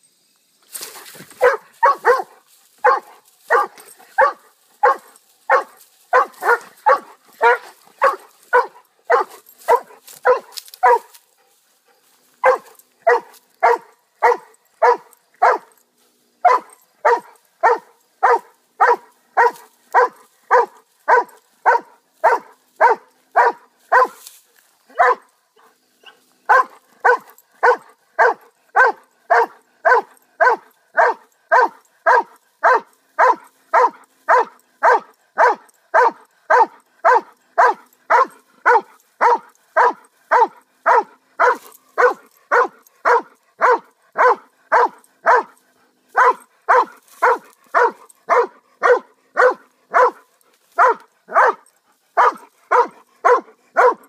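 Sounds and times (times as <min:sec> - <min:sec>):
large dog barking: 0:01.4 - 0:11.2, 0:12.4 - 0:15.8, 0:16.4 - 0:24.2, 0:24.9 - 0:54.0.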